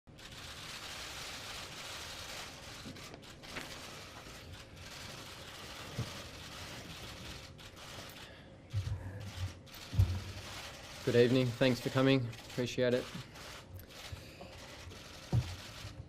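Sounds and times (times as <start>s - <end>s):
faint clicks and rustles: 0.2s - 16.0s.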